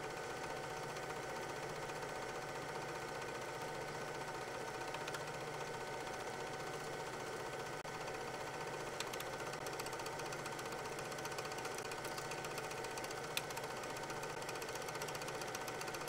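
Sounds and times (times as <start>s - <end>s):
film projector whirring and clattering: 0.0s - 16.0s.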